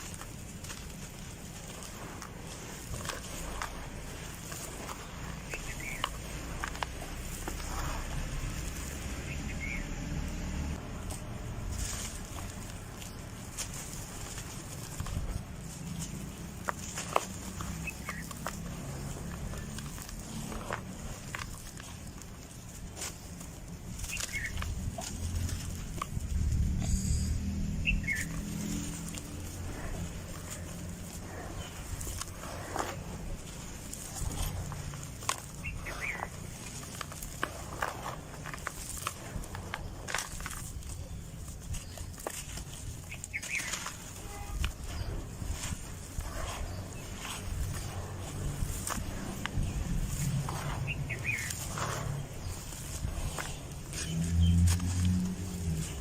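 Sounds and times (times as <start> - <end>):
dry dirt crunching: 0.0 - 56.0.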